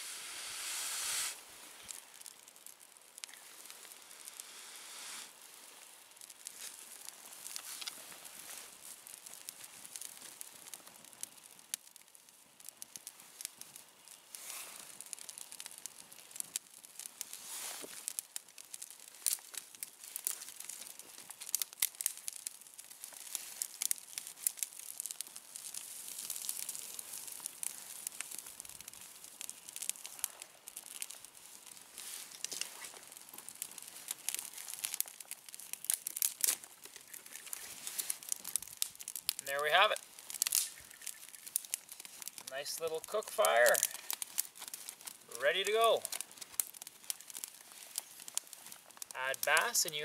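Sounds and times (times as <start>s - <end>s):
fire hissing softly: 0.0s - 50.0s
kindling fire crackling and popping: 0.0s - 50.0s.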